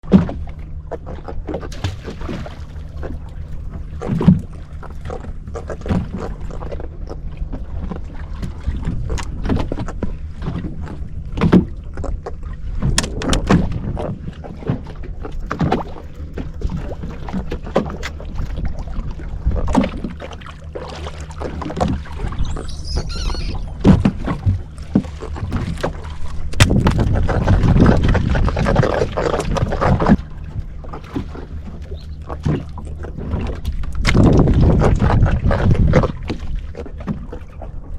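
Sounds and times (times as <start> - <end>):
boat engine running: 0.0 - 37.9.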